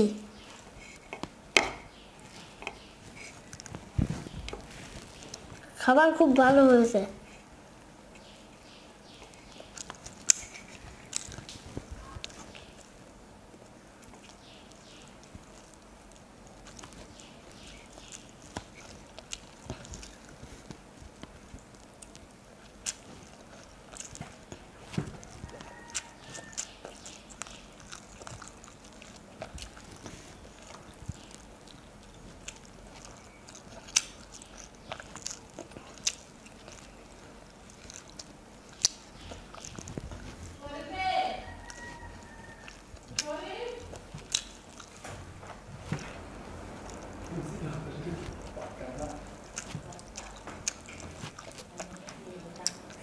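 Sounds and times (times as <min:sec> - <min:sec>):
fingers squishing food: 0:00.0 - 0:07.5, 0:08.1 - 0:53.0.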